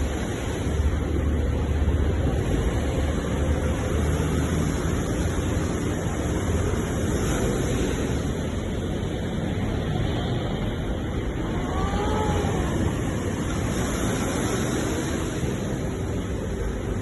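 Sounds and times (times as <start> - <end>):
deep rumble of waves: 0.0 - 17.0
ocean surf: 0.0 - 17.0.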